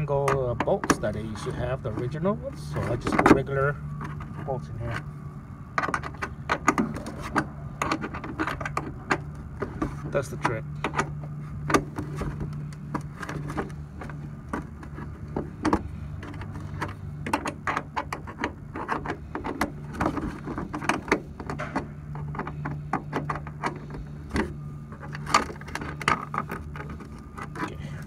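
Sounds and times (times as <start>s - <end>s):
bolts clicking and scraping: 0.0s - 28.0s
steady low hum: 0.0s - 28.0s.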